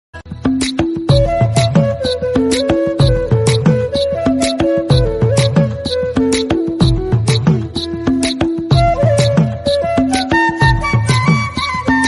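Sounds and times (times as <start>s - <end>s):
steady drumbeat: 0.3s - 12.0s
held melody line: 0.5s - 12.0s.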